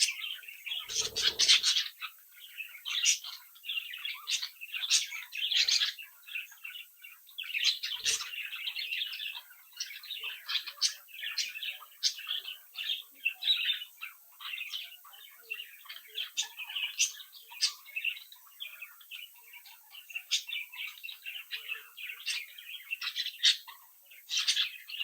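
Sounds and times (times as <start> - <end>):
budgerigars chirping and warbling: 0.0 - 25.0.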